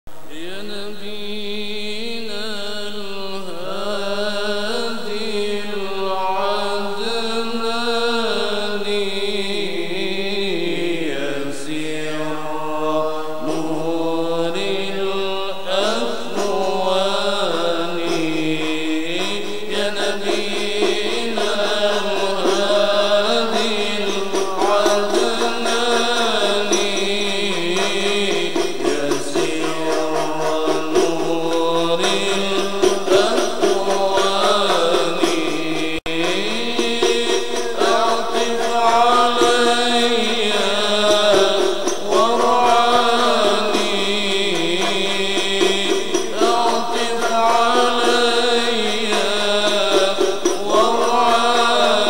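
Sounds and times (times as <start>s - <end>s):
sung chant: 0.2s - 52.0s.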